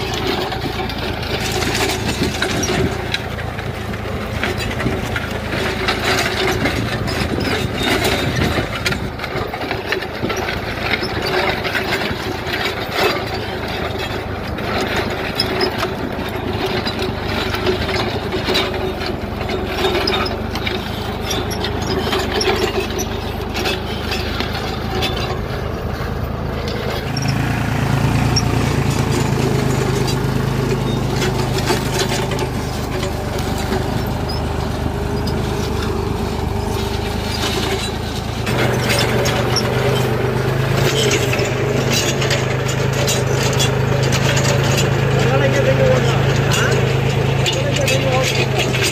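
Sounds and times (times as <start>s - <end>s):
plough discs knocking and scraping: 0.0s - 48.9s
tractor diesel engine under load: 0.0s - 48.9s.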